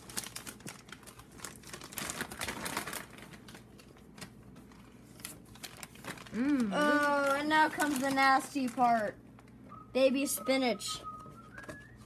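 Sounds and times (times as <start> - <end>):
popcorn bag crinkling: 0.0 - 9.8.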